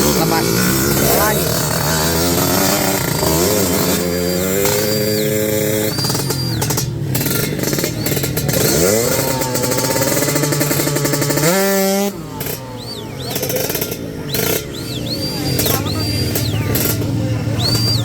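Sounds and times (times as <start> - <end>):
motorcycles accelerating hard: 0.0 - 18.0.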